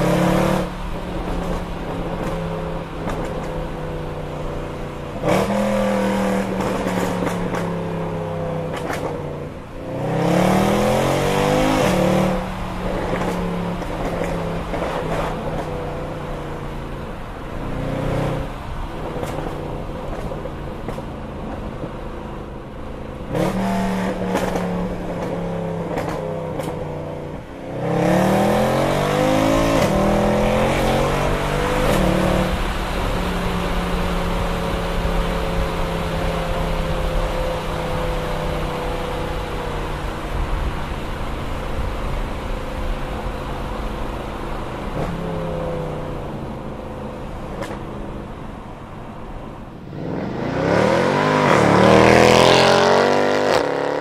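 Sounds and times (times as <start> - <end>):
car engine revving through gears: 0.0 - 16.7, 17.6 - 40.5, 43.6 - 48.3, 49.5 - 54.0.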